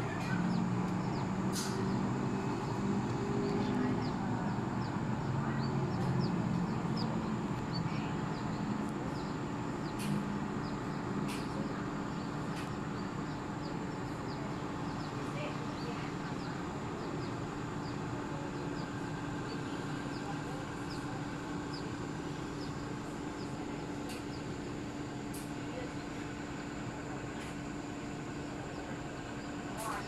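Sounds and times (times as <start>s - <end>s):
distant city traffic rumbling: 0.0s - 30.0s
small birds chirping: 0.0s - 30.0s.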